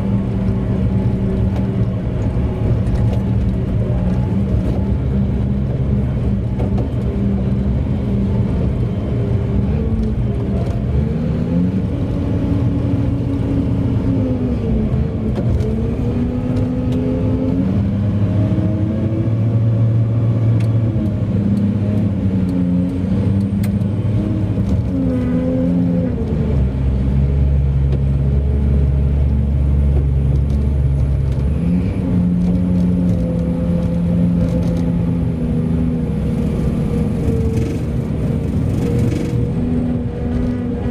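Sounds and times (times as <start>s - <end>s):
diesel truck engine revving: 0.0s - 40.9s.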